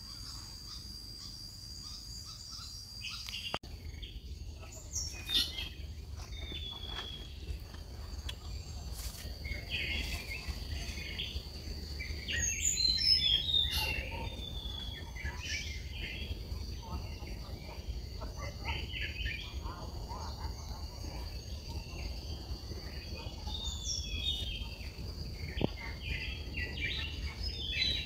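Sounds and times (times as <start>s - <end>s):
birds chirping: 0.0s - 28.0s
insect buzz: 0.0s - 28.0s.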